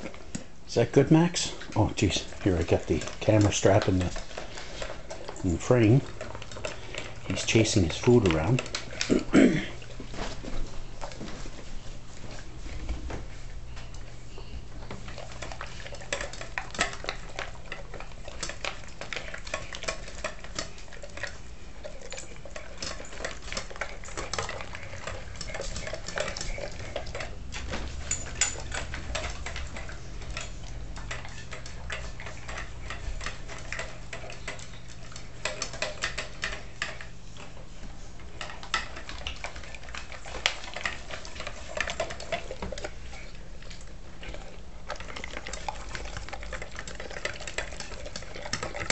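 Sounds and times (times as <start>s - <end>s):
dog chewing and gulping: 0.0s - 48.9s.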